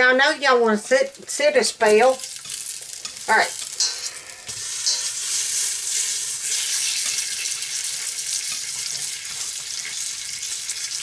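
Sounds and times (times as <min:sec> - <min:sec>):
pork sizzling in a pan: 0:00.0 - 0:11.0.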